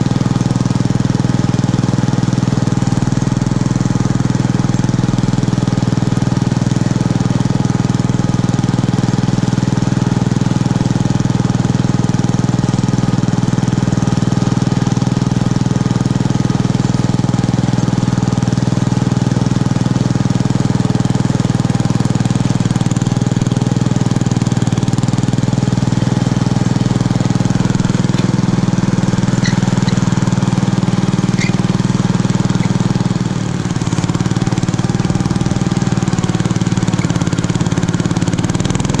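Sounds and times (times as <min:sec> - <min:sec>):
small tractor engine running: 0:00.0 - 0:39.0.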